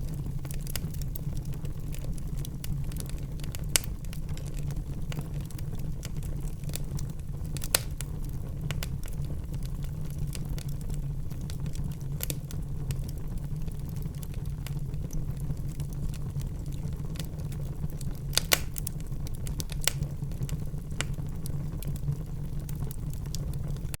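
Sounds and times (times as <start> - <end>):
burning wood popping: 0.0 - 24.0
wood fire crackling: 0.0 - 24.0.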